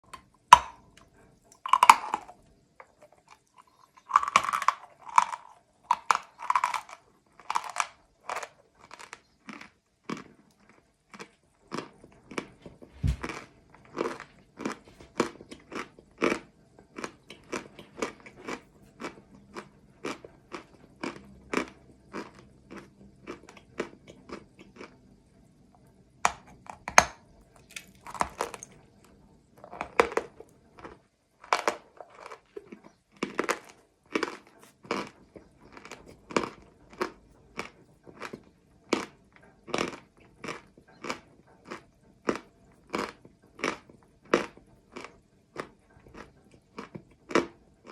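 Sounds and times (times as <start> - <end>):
person chewing crunchy chalk: 1.6 - 25.1, 27.6 - 28.8, 29.6 - 47.9.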